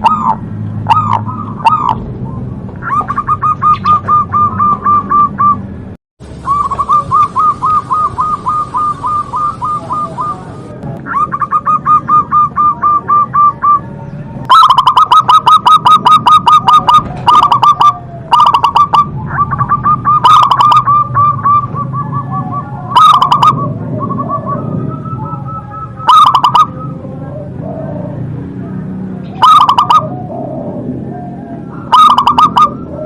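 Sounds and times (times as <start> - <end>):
dove cooing: 0.0 - 5.7, 6.4 - 33.0.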